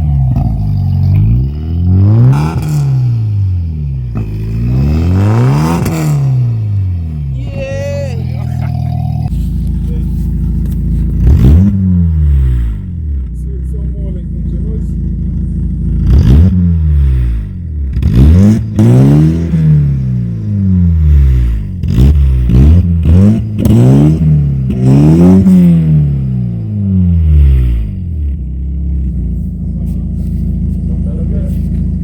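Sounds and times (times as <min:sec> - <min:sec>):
car engine revving and idling: 0:00.0 - 0:32.0.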